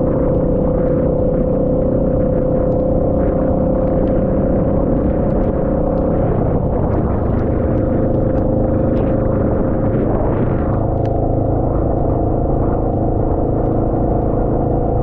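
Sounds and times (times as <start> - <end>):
mid-pitched hum: 0.0 - 15.0
raindrops ticking: 0.0 - 15.0
vehicle low rumble: 0.0 - 15.0.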